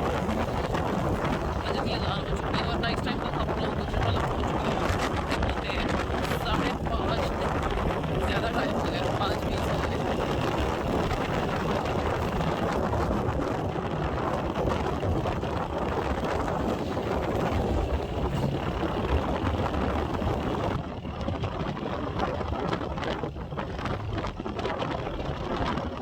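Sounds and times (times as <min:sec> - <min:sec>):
motorcycle engine and road rumble: 0:00.0 - 0:26.0
wind rushing over microphone: 0:00.0 - 0:26.0.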